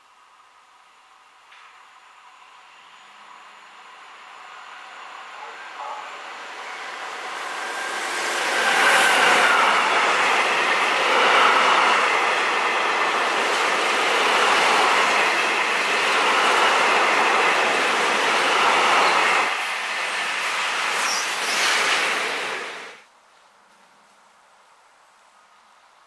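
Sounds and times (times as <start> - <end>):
electric locomotive passing: 0.2 - 23.0
train wheels running on rails: 1.4 - 23.0.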